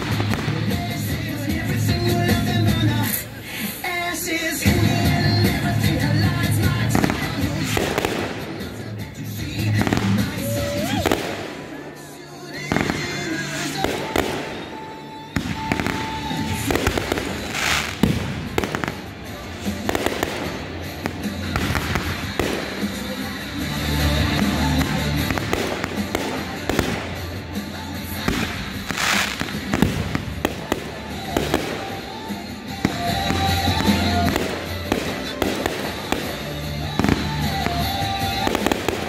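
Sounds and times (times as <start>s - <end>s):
music with low bass line: 0.0s - 3.2s, 4.6s - 11.5s, 15.4s - 39.0s
fireworks bursting and crackling: 0.0s - 39.0s.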